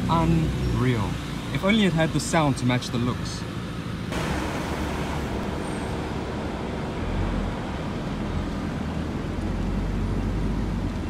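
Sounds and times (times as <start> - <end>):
car engine low rumble: 0.0 - 11.0
street traffic: 0.0 - 11.0.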